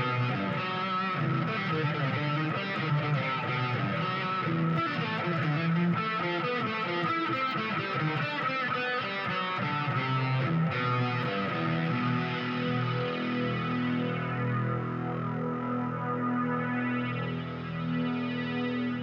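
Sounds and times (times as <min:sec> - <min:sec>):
plucked guitar-like music: 0:00.0 - 0:19.0.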